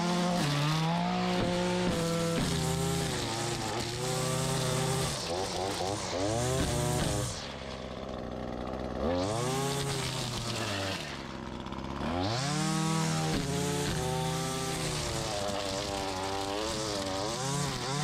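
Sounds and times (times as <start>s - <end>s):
string trimmer engine revving: 0.0s - 18.0s.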